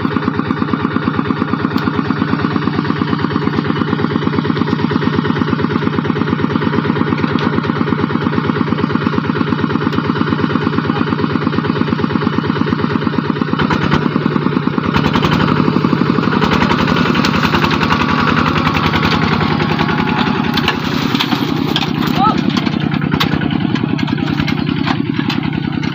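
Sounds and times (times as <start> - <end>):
diesel engine thudding: 0.0 - 25.9.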